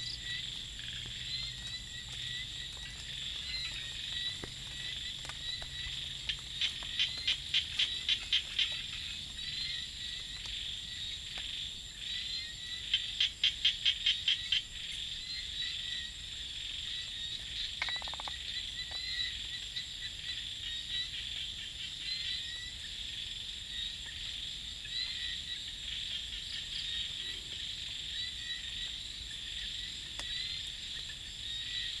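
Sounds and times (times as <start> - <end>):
frogs calling in rapid pulses: 0.0 - 32.0
high insect trill: 0.0 - 32.0.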